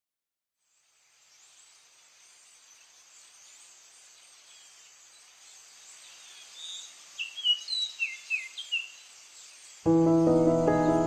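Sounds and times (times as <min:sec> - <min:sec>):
chorus of birds chirping: 0:01.3 - 0:11.0.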